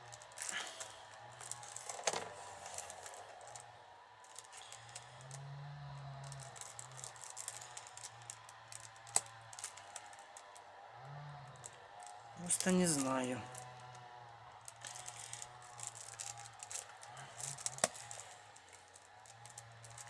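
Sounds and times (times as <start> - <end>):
wooden rods clicking and rustling: 0.0 - 5.4, 6.2 - 10.7, 11.5 - 20.0.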